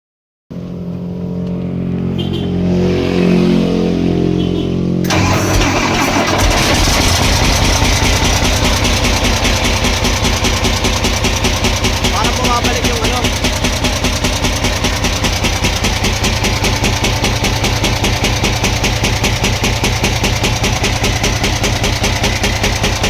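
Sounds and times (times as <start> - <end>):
diesel truck engine clattering: 4.4 - 23.0.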